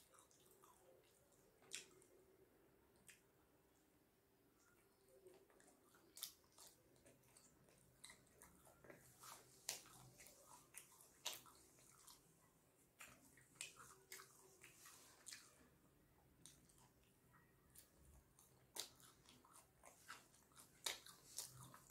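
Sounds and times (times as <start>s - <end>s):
person chewing with wet smacks: 0.0s - 3.9s, 4.5s - 21.9s.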